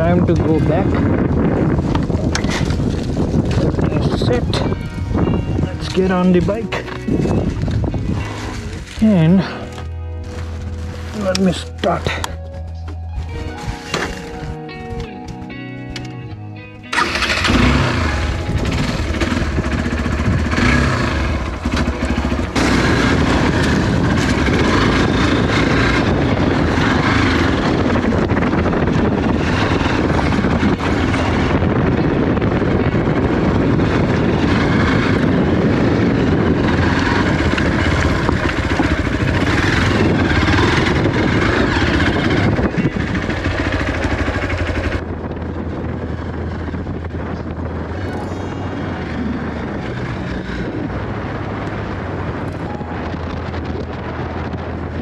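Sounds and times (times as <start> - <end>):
motorcycle engine running: 0.0 - 16.1, 16.8 - 55.0.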